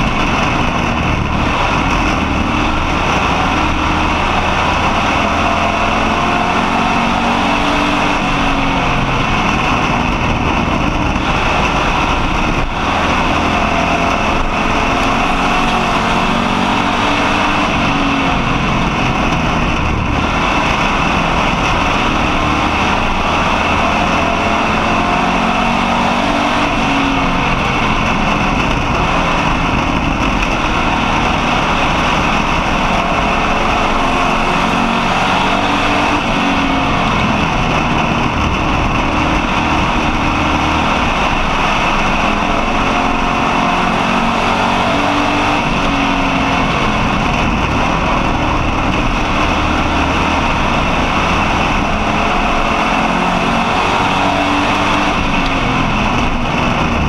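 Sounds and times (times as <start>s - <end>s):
race car engine at speed: 0.0s - 57.0s.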